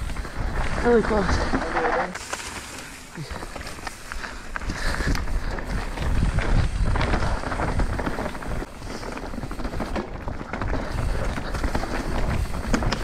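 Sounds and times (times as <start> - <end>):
wind rumbling on microphone: 0.0 - 1.9, 3.4 - 13.0
bike rattling clicks: 0.0 - 13.0
bike tyres crunching over leaves: 0.0 - 13.0.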